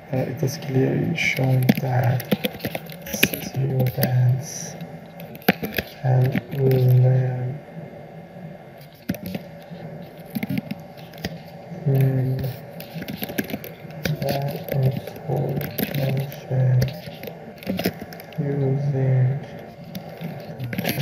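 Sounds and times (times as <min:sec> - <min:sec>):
person speaking: 0:00.0 - 0:07.8, 0:11.0 - 0:21.0.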